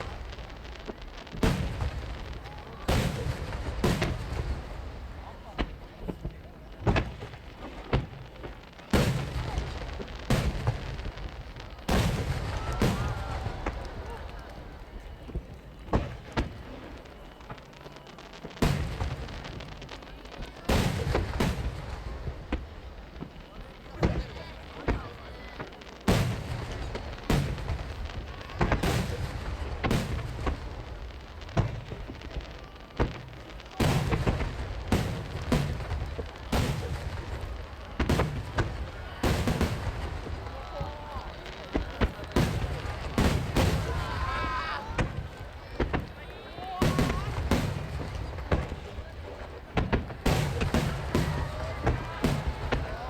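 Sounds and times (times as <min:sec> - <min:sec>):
firework shells booming: 0:00.0 - 0:17.8, 0:18.4 - 0:53.0.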